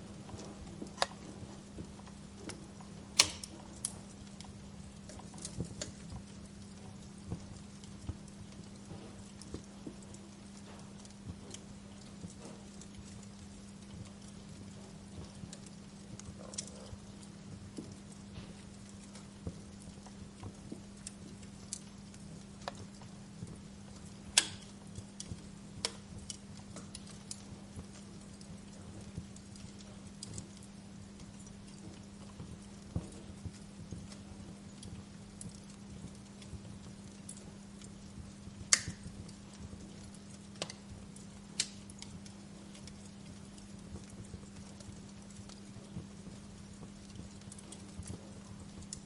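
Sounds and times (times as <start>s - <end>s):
fireplace fire crackling: 0.0s - 49.0s
steady low hum: 0.0s - 49.0s.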